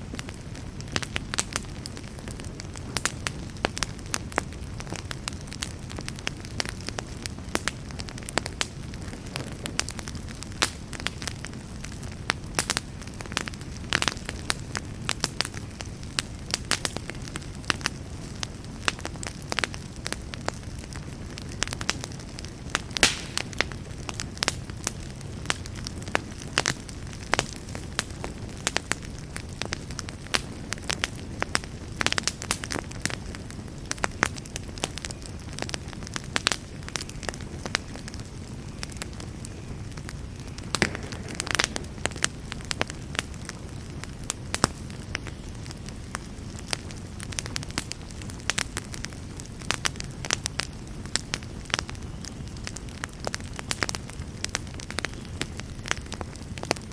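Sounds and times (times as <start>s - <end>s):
burning wood crackling and popping: 0.0s - 56.9s
campfire flames rumbling: 0.0s - 56.9s.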